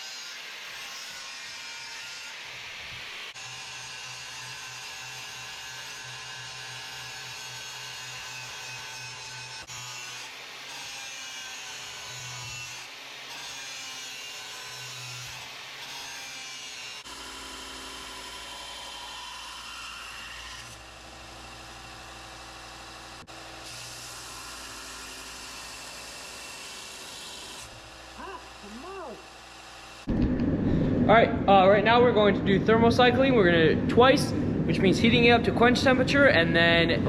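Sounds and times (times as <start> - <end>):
power tool grinding steel: 0.0 - 30.1.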